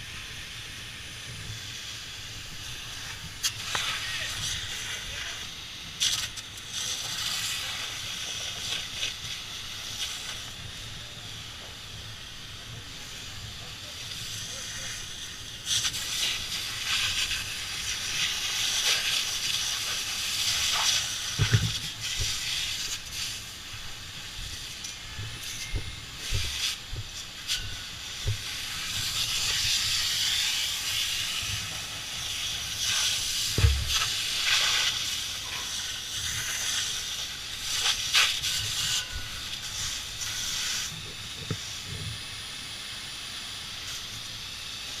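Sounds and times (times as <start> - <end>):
fire hose spraying water: 0.0 - 45.0.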